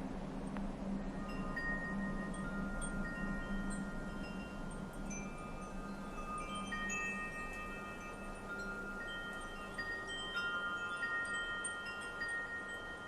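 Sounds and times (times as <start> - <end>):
light wind hiss: 0.0 - 13.0
wind chimes ringing: 1.0 - 13.0.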